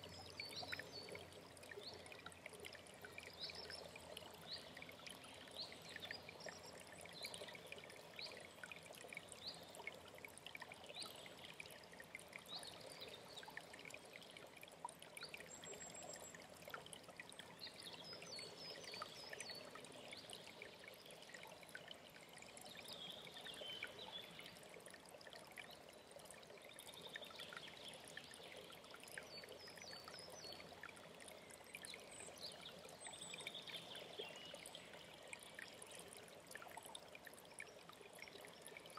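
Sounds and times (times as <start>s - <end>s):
stream trickling and gurgling: 0.0s - 38.9s.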